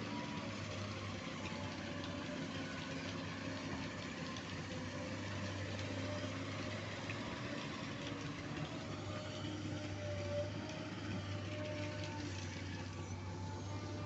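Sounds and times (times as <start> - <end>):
excavator diesel engine humming: 0.0 - 14.0.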